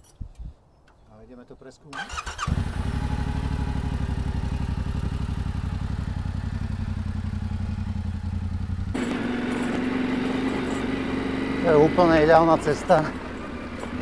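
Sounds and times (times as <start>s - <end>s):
motorcycle engine running: 2.4s - 14.0s.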